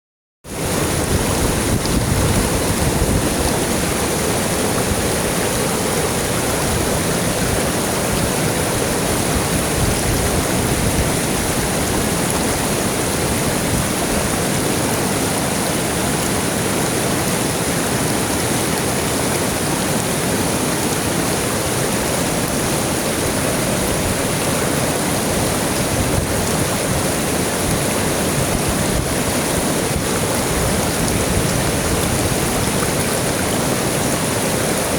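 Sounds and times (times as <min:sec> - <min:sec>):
river water flowing: 0:00.5 - 0:34.9.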